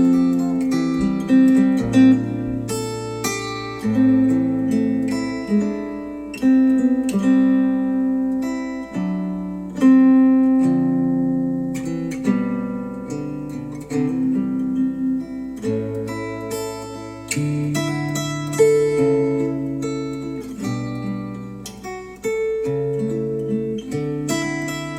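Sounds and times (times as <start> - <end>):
acoustic guitar music over speakers: 0.0 - 24.9.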